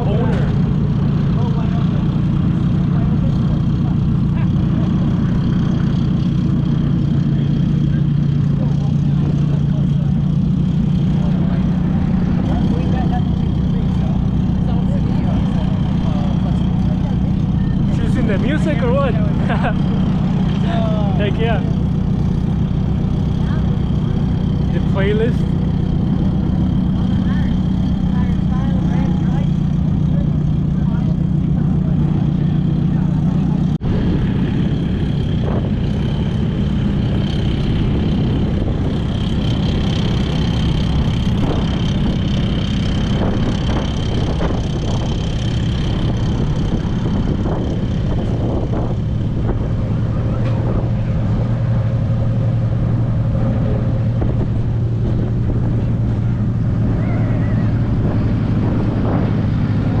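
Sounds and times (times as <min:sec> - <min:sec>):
vehicle engine running: 0:00.0 - 1:00.0.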